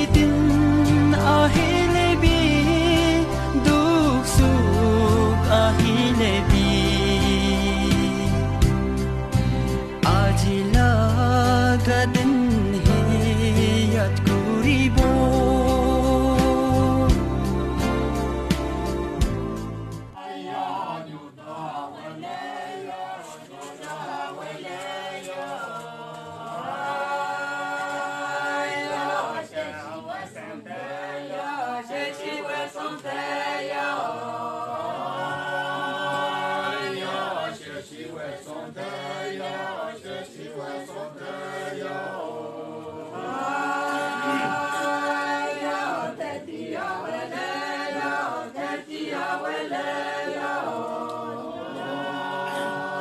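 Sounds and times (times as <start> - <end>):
choir singing unaccompanied: 0.0 - 53.0.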